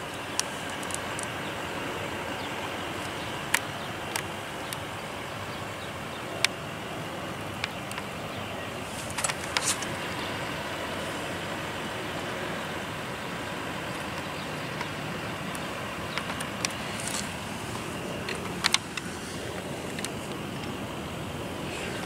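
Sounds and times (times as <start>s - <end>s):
background hiss and rumble: 0.0s - 22.0s.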